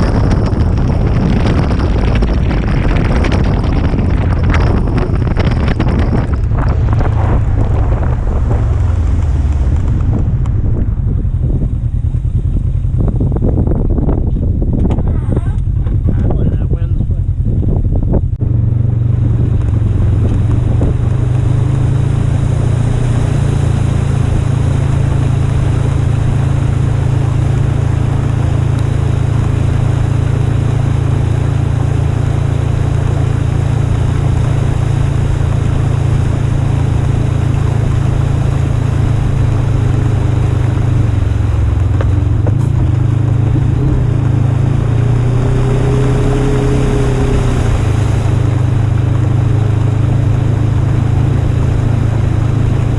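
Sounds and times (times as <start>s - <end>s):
high whine: 0.0s - 52.9s
road and water noise: 0.0s - 52.9s
vehicle engine droning: 0.0s - 52.9s.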